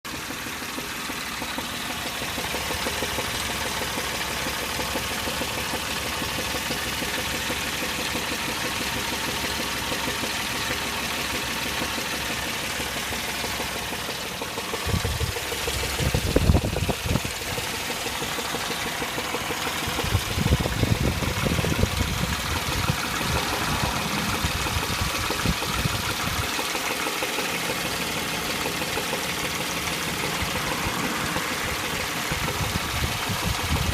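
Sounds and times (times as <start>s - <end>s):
car engine idling with knock: 0.0s - 33.9s
low engine rumbles: 0.0s - 33.9s.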